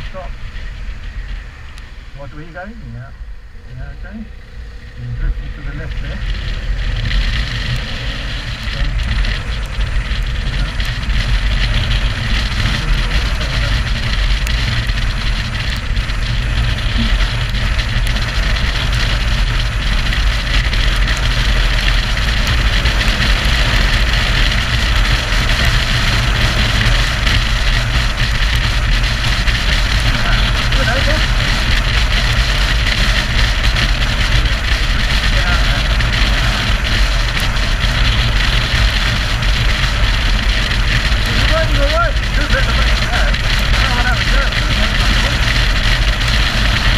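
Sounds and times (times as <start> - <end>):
motorcycle engine rumble: 0.0 - 46.9
rushing wind: 0.0 - 46.9.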